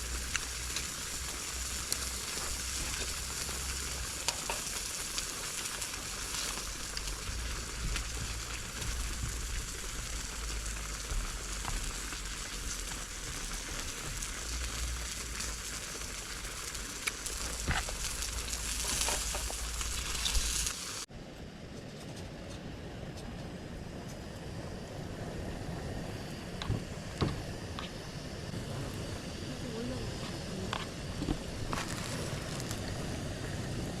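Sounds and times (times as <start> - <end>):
food sizzling in a pan: 0.0 - 21.1, 24.2 - 34.0.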